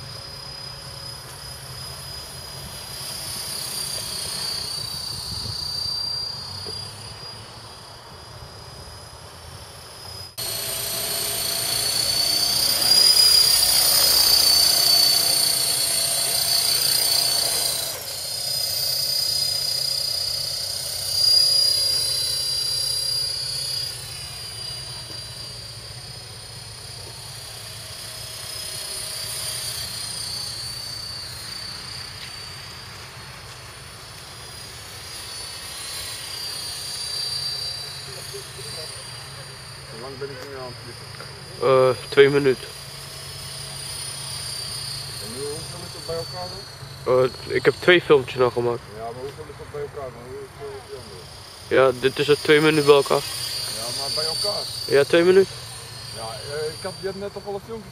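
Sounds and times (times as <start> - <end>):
rc helicopter motor whine: 0.0 - 57.9
rotor blades whirring: 0.0 - 57.9.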